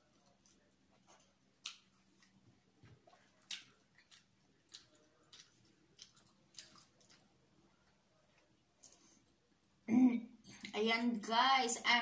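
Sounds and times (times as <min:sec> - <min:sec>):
mouth clicks and smacks chewing: 0:00.0 - 0:09.8.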